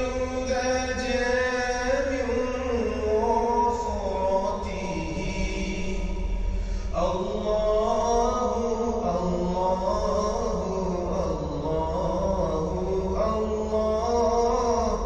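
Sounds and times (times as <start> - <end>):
chanted vocal melody: 0.0 - 15.0.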